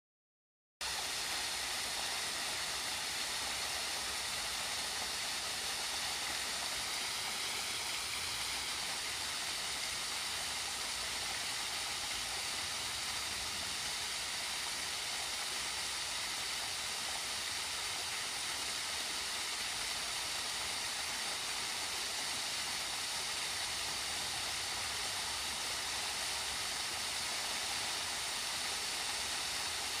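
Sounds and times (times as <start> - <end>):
waterfall splashing into pond: 0.8 - 30.0.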